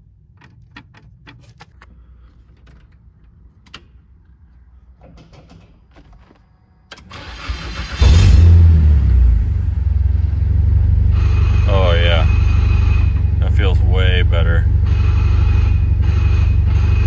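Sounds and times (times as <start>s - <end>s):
car engine cranking and starting: 0.0s - 4.4s, 5.0s - 17.0s.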